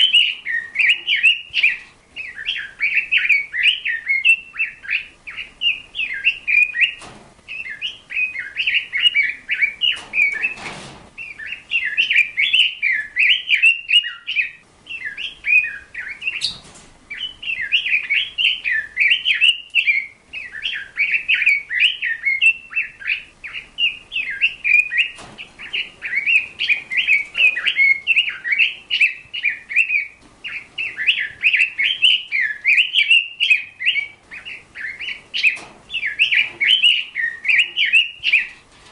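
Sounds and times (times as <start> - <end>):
bird chirping rapidly: 0.0 - 38.6.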